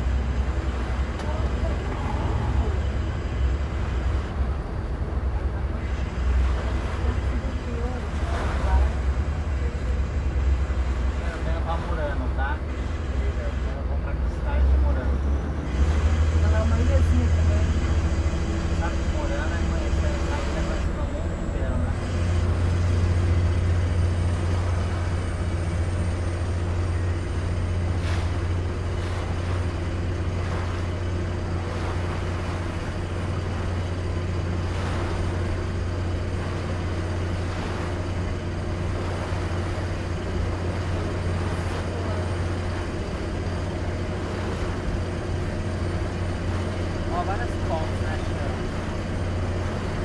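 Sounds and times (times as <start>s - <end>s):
boat engine droning: 0.0s - 50.0s
water rushing along hull: 0.0s - 50.0s.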